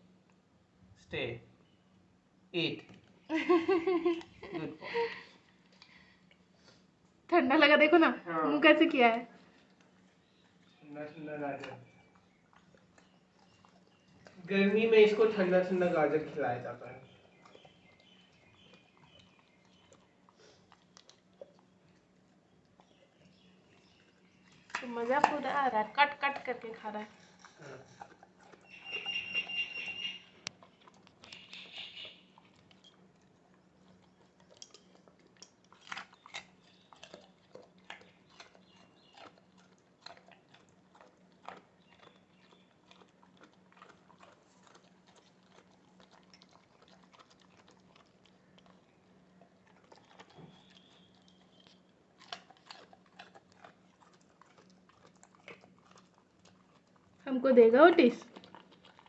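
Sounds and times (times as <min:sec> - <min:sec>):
faint low hum: 0:00.0 - 0:59.0
dog crunching a carrot: 0:05.3 - 0:07.3, 0:08.3 - 0:59.0.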